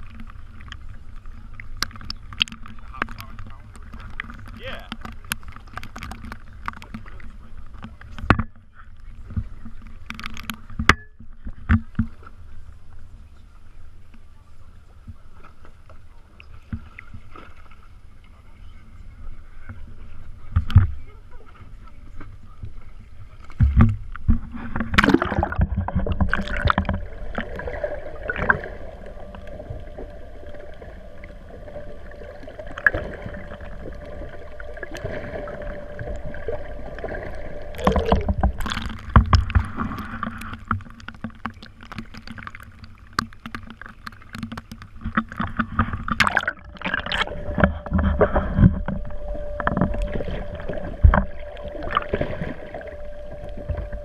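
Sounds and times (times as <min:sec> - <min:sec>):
boat engine hum: 0:00.0 - 0:54.0.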